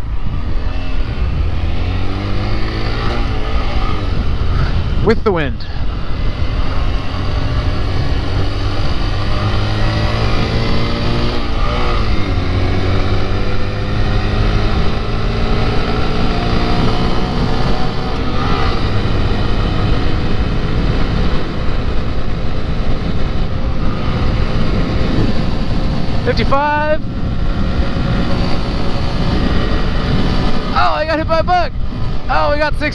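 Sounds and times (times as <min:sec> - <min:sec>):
motorcycle engine at full throttle: 0:00.0 - 0:32.9
wind rumble on microphone: 0:00.0 - 0:32.9.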